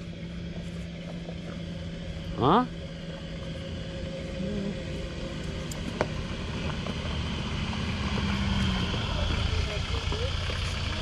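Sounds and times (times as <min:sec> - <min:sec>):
off-road engines running: 0:00.0 - 0:11.0.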